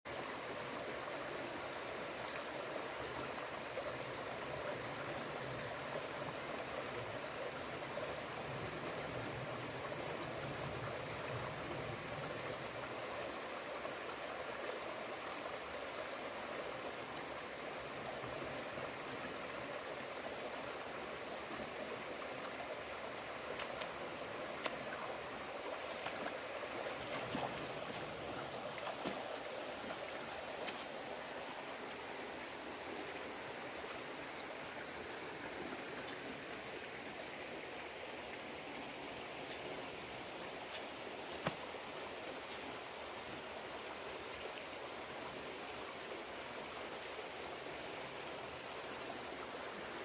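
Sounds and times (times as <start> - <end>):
running water rushing: 0.1 - 50.0.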